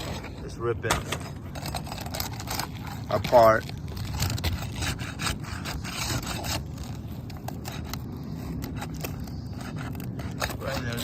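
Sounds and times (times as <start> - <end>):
scraping on roof shingles: 0.0 - 11.0.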